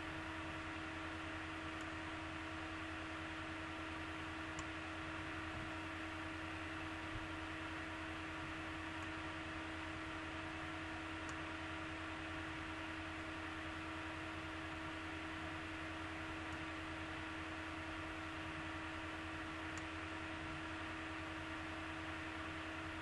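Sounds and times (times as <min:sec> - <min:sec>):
constant low hum: 0:00.0 - 0:23.0.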